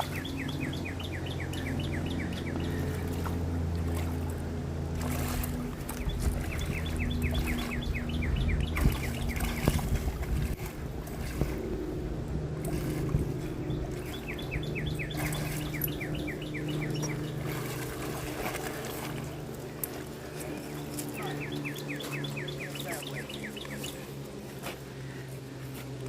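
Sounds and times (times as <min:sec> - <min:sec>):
songbird singing: 0:00.0 - 0:04.4, 0:05.0 - 0:11.6, 0:12.6 - 0:25.4
low mechanical hum: 0:00.0 - 0:26.0.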